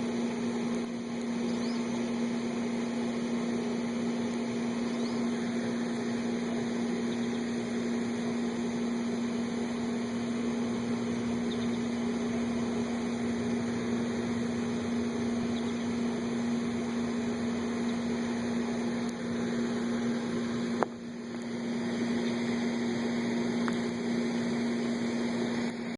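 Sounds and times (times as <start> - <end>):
steady machine hum: 0.0 - 25.9.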